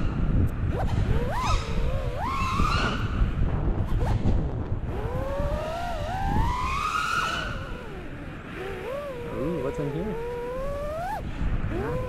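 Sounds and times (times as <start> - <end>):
low rumbling noise: 0.0 - 12.0
quadcopter motors whining: 0.0 - 12.0.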